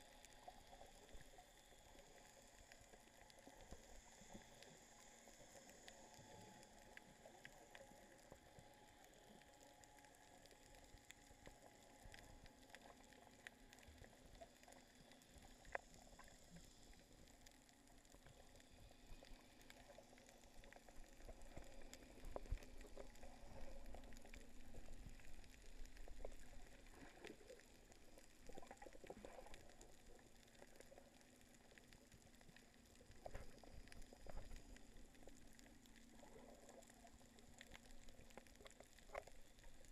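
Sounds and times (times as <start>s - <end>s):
underwater clicks and crackles: 0.0s - 39.9s
water sloshing and bubbling: 0.0s - 39.9s.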